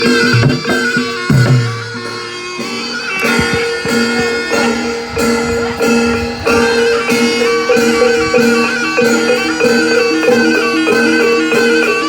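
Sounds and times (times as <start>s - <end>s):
drum strokes: 0.0s - 12.0s
held tones of pitched instrument: 0.0s - 12.0s.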